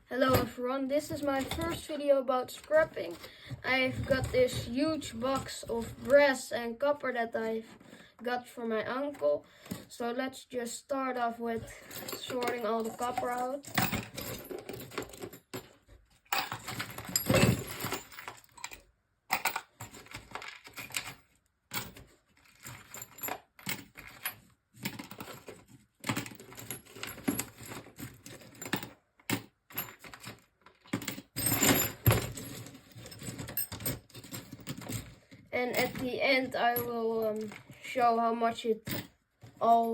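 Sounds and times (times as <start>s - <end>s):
scrap metal clinking and rattling: 0.2s - 6.2s, 11.6s - 37.8s.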